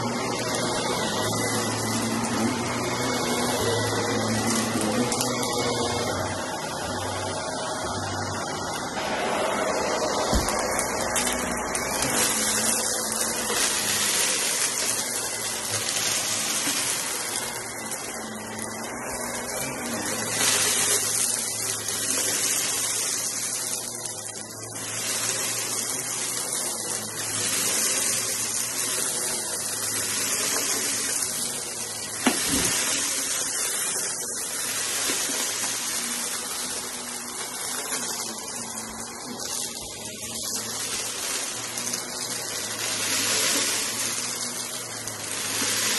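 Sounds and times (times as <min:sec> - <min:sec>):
debris crackling in vacuum: 0:00.0 - 0:45.9
vacuum cleaner suction: 0:00.0 - 0:45.9.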